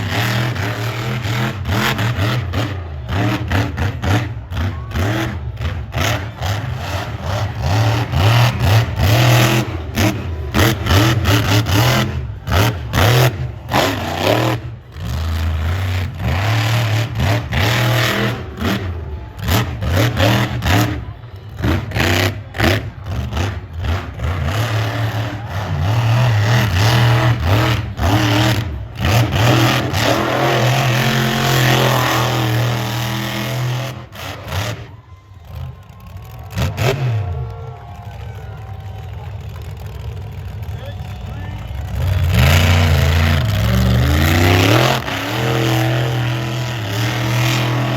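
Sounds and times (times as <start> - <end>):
truck engine revving hard: 0.0 - 38.2, 39.3 - 47.9.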